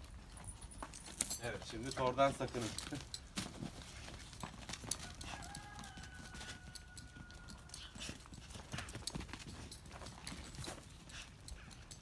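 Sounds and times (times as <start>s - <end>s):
dog paws scrabbling on dirt: 0.0s - 12.0s.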